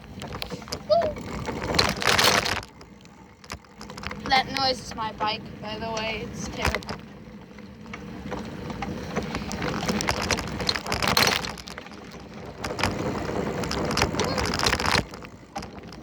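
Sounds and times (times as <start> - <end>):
bicycle rattling and clicking: 0.0 - 16.0.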